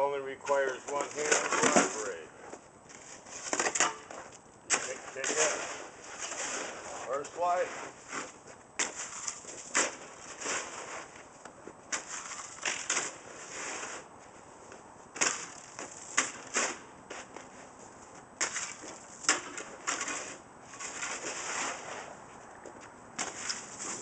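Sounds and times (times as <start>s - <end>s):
snow shovels scraping icy snow: 0.5s - 11.3s, 11.9s - 14.1s, 15.2s - 17.8s, 18.4s - 22.2s, 23.2s - 24.0s.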